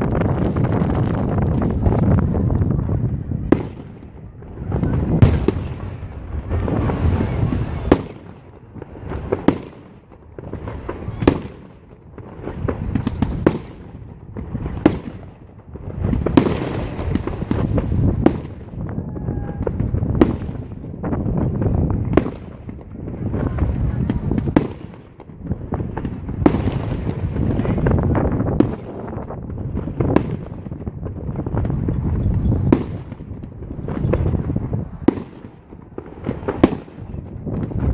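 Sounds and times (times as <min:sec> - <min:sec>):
fireworks bursting with bangs: 0:00.0 - 0:37.9
high crackling of fireworks: 0:00.0 - 0:37.9.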